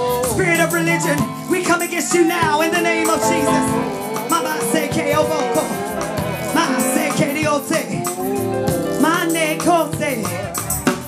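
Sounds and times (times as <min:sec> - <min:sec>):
praise band playing: 0:00.0 - 0:11.0
voices singing and calling out: 0:00.0 - 0:11.0
shaker keeping time: 0:00.1 - 0:11.0.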